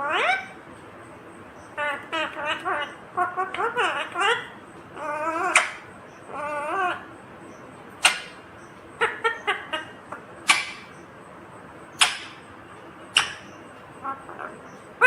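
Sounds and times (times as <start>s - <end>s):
parakeet calling: 0.0s - 15.0s.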